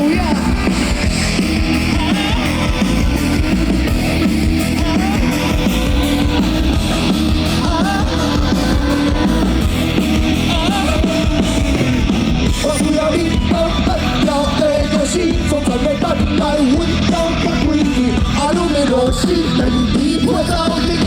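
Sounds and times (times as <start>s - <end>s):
bass guitar: 0.0s - 21.0s
drums: 0.0s - 21.0s
electric guitar: 0.0s - 21.0s
rock band playing: 0.0s - 21.0s.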